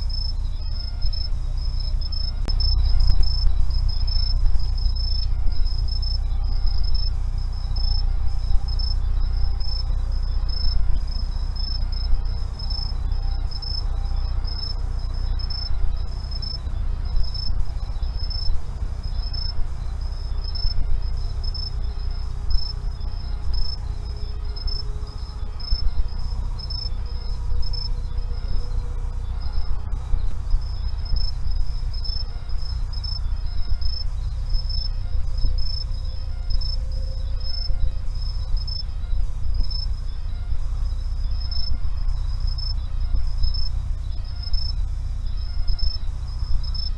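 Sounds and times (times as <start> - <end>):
crickets chirring: 0.0 - 46.9
low steady rumble: 0.0 - 46.9.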